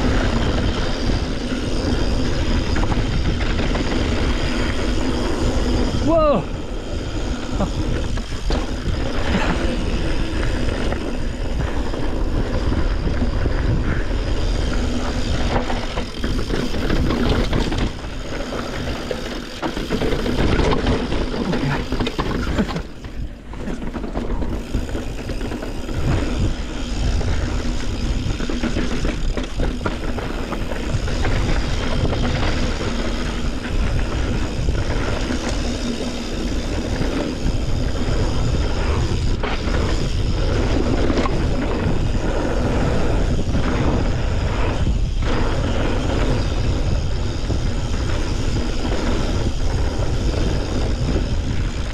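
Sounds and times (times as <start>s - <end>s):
wind on microphone: 0.0s - 19.3s, 20.0s - 51.9s
mountain bike rolling and rattling: 0.0s - 51.9s.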